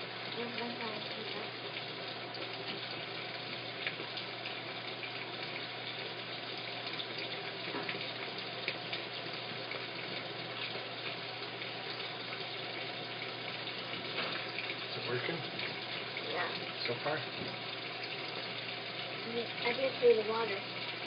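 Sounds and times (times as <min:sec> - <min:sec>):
water rushing into washing machine: 0:00.0 - 0:21.0
small splashes and ticks: 0:00.2 - 0:21.0.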